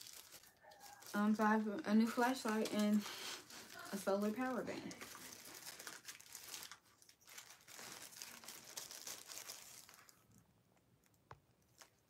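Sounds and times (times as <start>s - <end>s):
paper rustling: 0.0s - 10.2s
plastic packaging crinkling: 0.0s - 10.4s, 11.0s - 12.0s.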